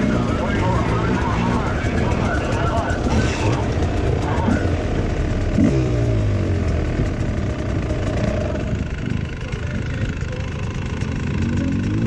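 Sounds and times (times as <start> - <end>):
dirt bike engine revving: 0.0 - 12.0
dirt bike engines idling: 0.0 - 12.0.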